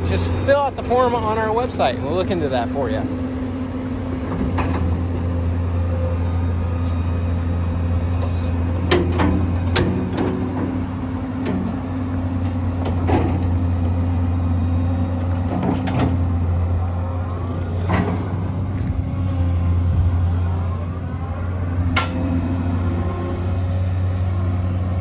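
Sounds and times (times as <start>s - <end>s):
excavator diesel engine humming: 0.0s - 25.0s.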